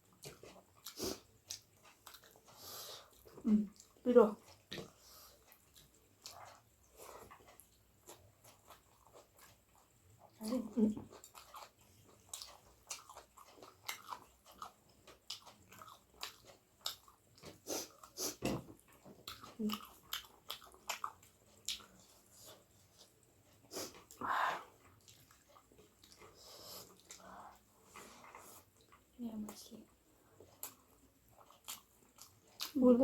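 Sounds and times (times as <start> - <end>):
wet chewing and lip smacks: 0.0 - 10.4, 11.0 - 32.8.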